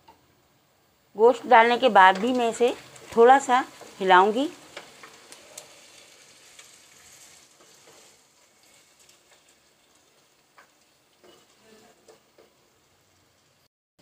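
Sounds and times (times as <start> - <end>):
meat and onions sizzling in oil: 1.2 - 13.7.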